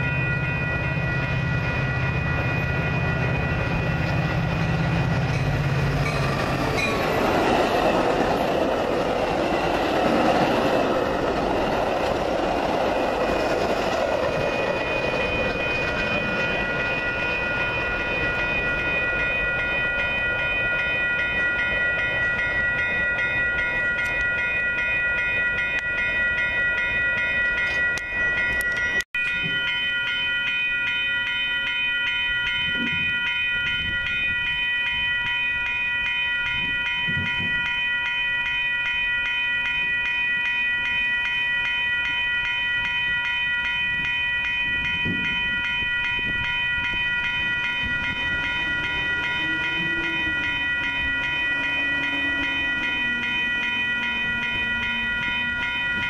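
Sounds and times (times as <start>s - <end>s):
crossing warning bell ringing: 0.0s - 56.0s
passenger train passing: 0.0s - 56.0s.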